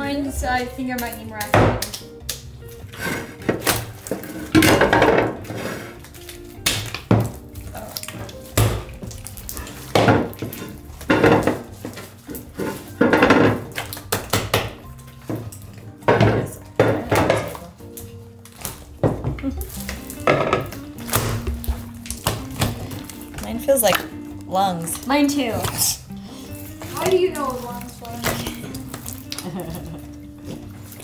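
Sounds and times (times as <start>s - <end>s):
slime squelching: 5.3s - 31.0s.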